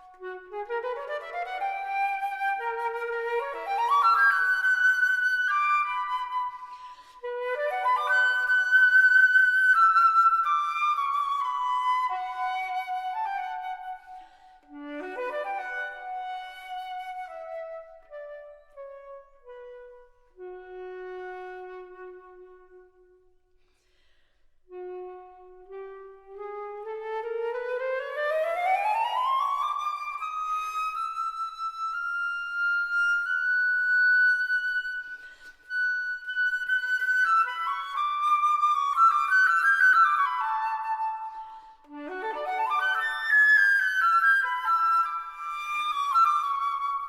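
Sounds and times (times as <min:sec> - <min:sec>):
flute melody: 0:00.0 - 0:23.5, 0:24.6 - 0:47.0
solo woodwind playing: 0:00.0 - 0:23.6, 0:24.6 - 0:47.0.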